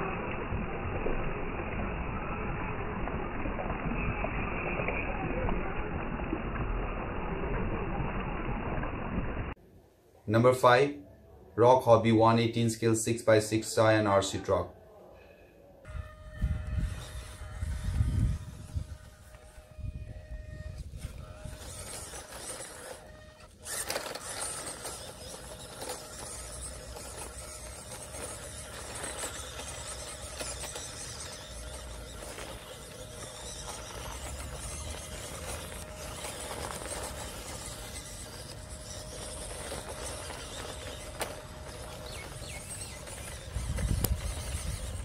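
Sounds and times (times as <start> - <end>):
toy truck motor whining: 0.0 - 8.0, 15.9 - 45.0.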